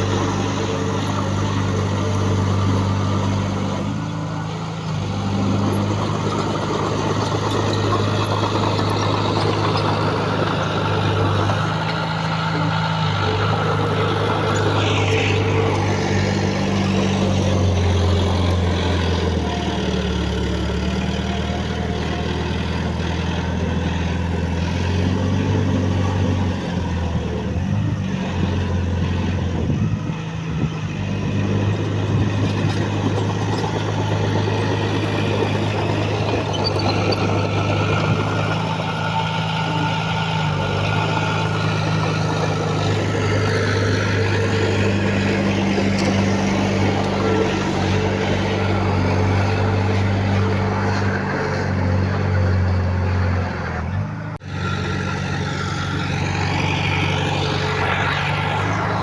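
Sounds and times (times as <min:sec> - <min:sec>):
large diesel engine running: 0:00.0 - 0:59.0.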